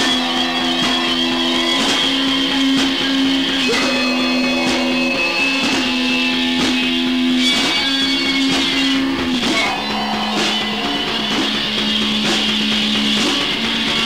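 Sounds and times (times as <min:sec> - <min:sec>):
distorted electric guitar chords: 0:00.0 - 0:14.0
slow steady drum beat: 0:00.0 - 0:14.0.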